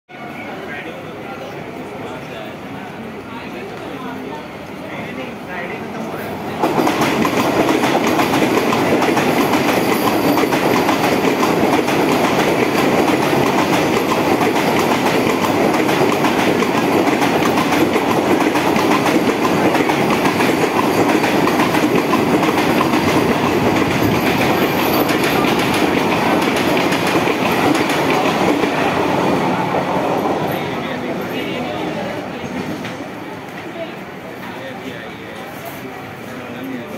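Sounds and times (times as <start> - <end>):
train wheels rushing on rail: 0.2 - 36.9.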